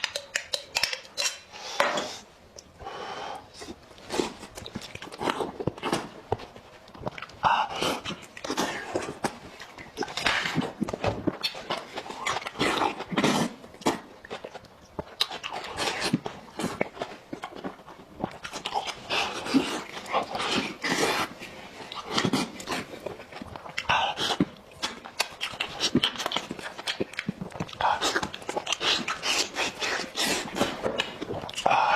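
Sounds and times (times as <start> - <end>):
man chewing food: 0.0 - 31.9.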